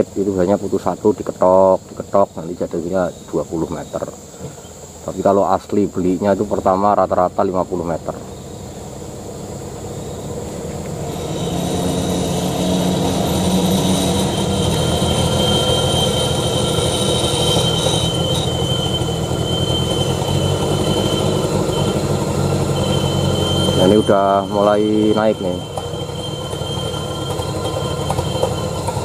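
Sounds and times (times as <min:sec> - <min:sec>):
diesel engine under load: 0:00.0 - 0:29.0
high whine of winch: 0:00.0 - 0:29.0.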